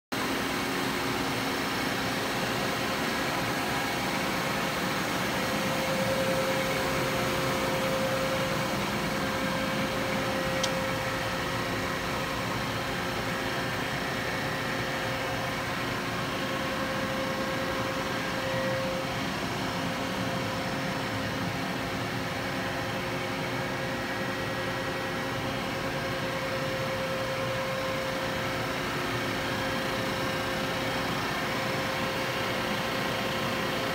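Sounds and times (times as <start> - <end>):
machinery hum with faint whine: 0.1 - 33.9.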